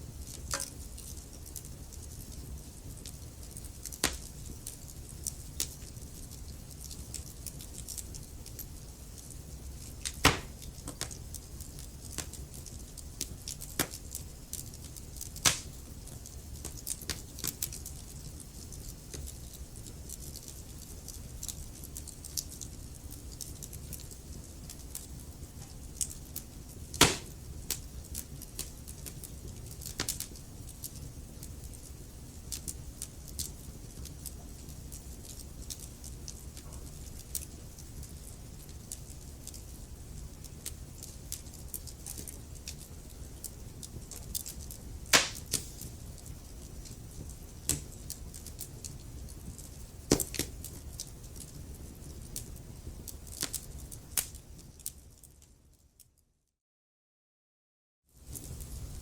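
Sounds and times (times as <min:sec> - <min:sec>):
wood fire crackling: 0:00.0 - 0:56.2, 0:58.2 - 0:59.0.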